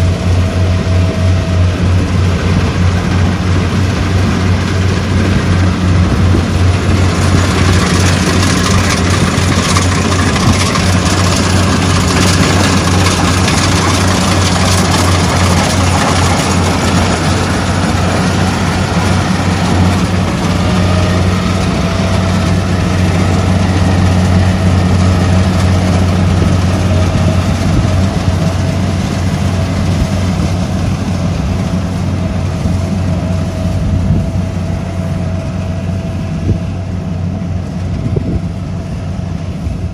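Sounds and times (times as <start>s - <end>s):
harvester engine running: 0.0s - 39.9s
machinery mechanical rush: 0.0s - 39.9s.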